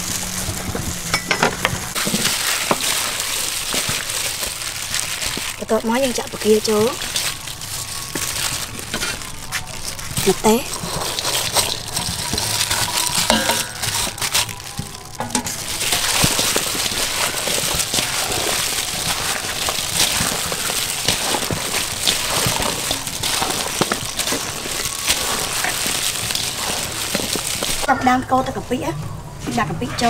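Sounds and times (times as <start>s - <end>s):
chillies tumbling from steel bowl: 0.0s - 28.0s
crackly rustle of hand mixing: 0.0s - 30.0s.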